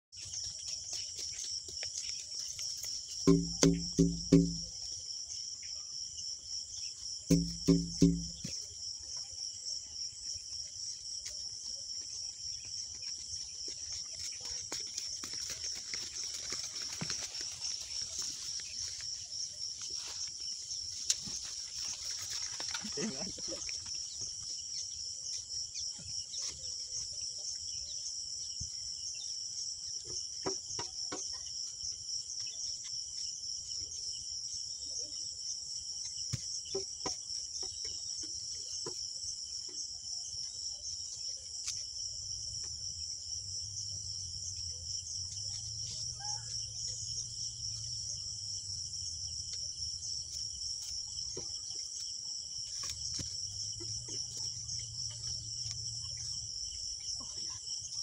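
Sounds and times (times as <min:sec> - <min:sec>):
insects chirring: 0:00.2 - 0:58.0.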